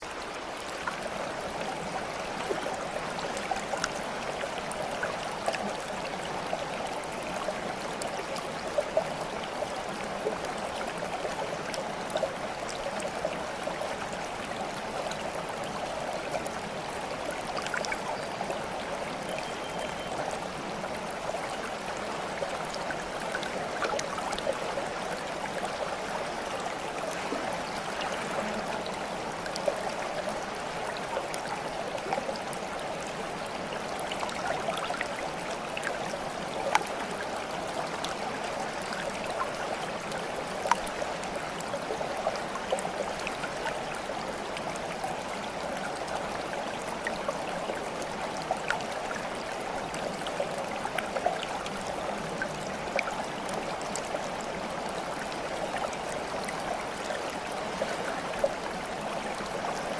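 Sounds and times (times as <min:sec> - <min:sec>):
stream water babbling: 0:00.0 - 0:59.9
water trickles and splashes: 0:00.0 - 0:59.9.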